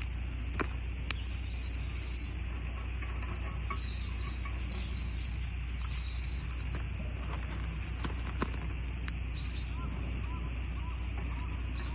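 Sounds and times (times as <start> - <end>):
faint ticks: 0.0 - 10.4
crickets trilling: 0.0 - 11.9.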